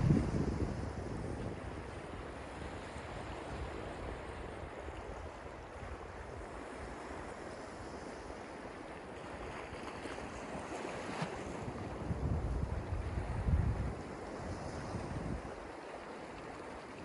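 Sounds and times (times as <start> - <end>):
ocean waves washing over sand: 0.0 - 17.0.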